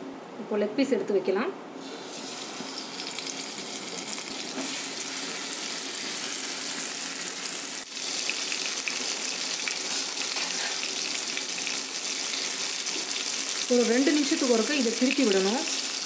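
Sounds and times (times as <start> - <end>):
chicken sizzling in hot oil: 1.8 - 16.0.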